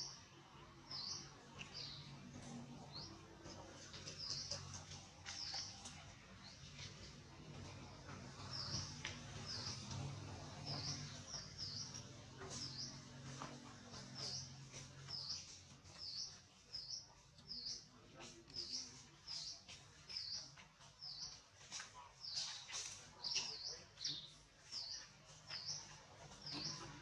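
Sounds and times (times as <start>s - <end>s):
bird chirping: 0.0s - 27.0s.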